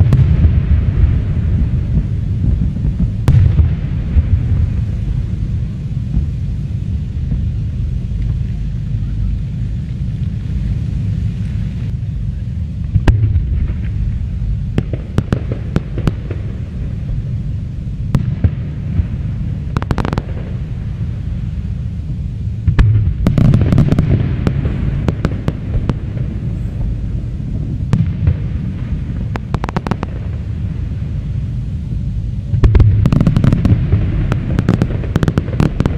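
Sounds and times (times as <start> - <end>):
fireworks bangs and crackles: 0.0 - 35.9
steady low rumble: 0.0 - 35.9.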